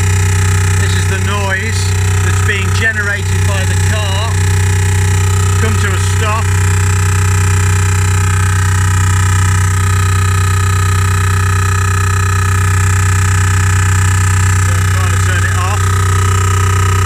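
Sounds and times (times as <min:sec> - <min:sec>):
electronic drone from car speakers: 0:00.0 - 0:17.0.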